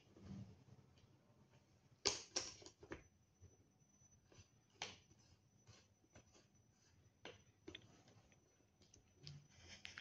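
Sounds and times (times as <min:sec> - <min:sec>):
faint high whine: 0:00.0 - 0:10.0.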